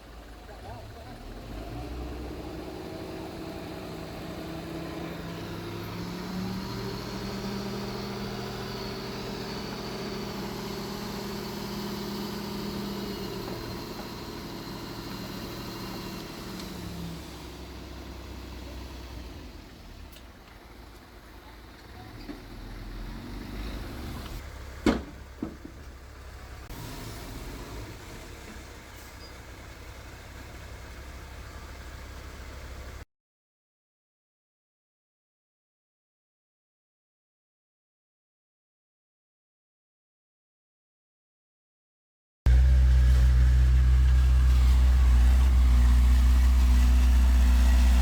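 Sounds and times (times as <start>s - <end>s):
diesel engine running: 0.0s - 33.0s, 42.5s - 48.0s.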